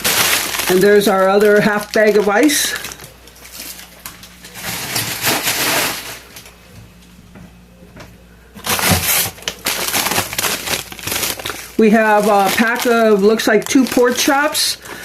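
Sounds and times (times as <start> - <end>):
plastic bags crinkling: 0.0 - 6.6, 8.6 - 15.0.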